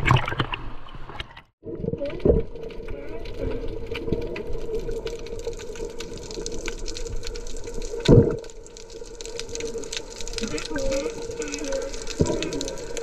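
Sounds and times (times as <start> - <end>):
underwater wash and bubbling: 0.0 - 13.0
crackle of small clicks: 1.2 - 13.0.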